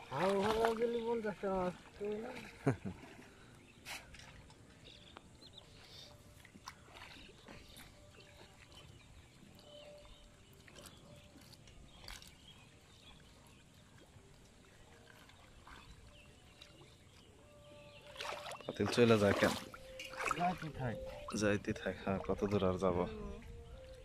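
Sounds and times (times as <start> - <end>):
water splashing and dripping: 0.0 - 24.0.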